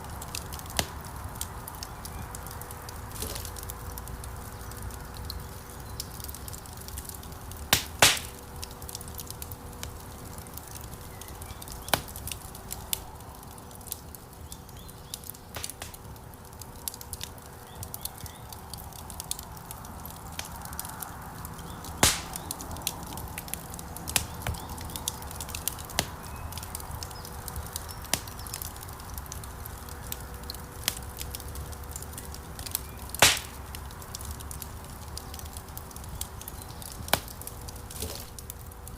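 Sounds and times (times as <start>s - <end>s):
burning logs snapping: 0.0s - 38.9s
wood fire crackling: 0.0s - 38.9s.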